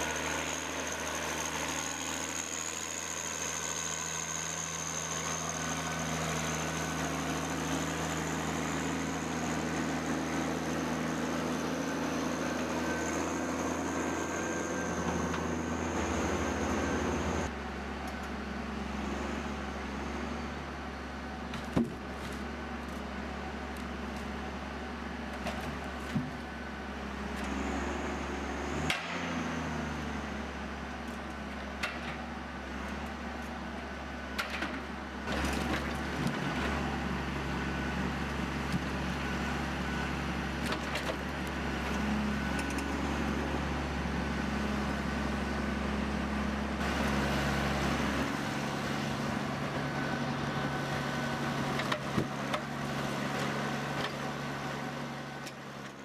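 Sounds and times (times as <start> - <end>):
large engine running: 0.0 - 56.0.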